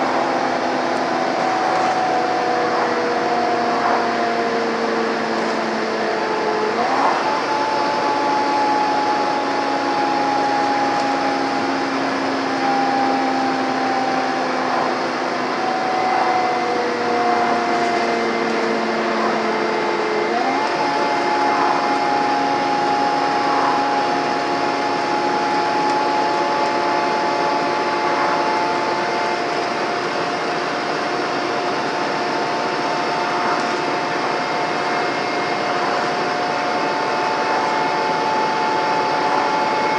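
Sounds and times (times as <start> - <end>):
bus diesel engine whining: 0.0 - 39.9.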